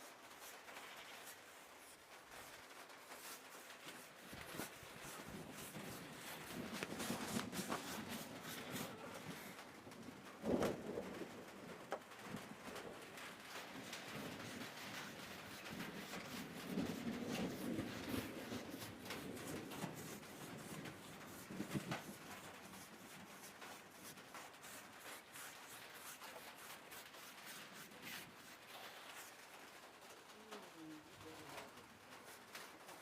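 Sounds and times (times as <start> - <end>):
paintbrush brushing on wood: 0.0 - 9.7, 13.1 - 29.6, 31.4 - 33.0.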